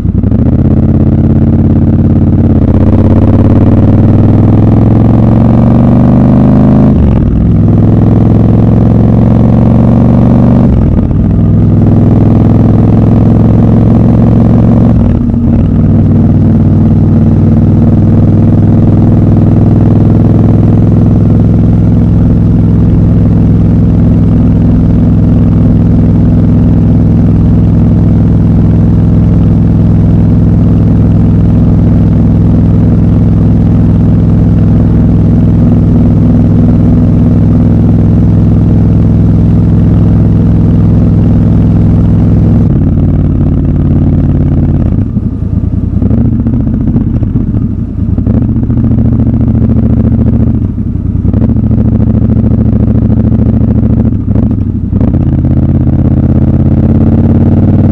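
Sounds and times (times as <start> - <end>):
motorcycle engine cruising: 0.0 - 57.9.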